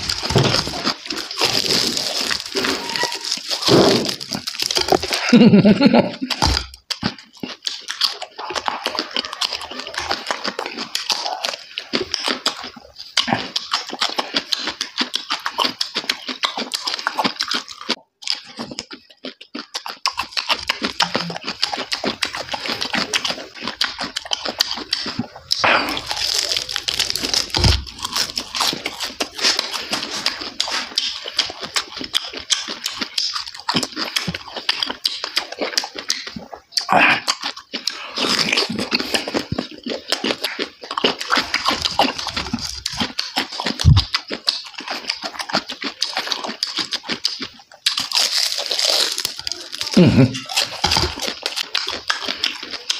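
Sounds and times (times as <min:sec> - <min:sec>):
chewing and crunching: 0:00.0 - 0:52.9
lip smacking and sucking: 0:06.3 - 0:52.9.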